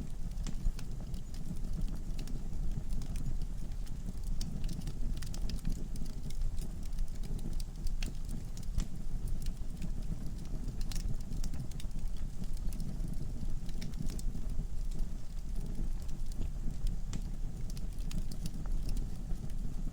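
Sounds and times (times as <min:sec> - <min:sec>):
burning logs crackling: 0:00.0 - 0:19.9
low rumble of flame: 0:00.0 - 0:19.9.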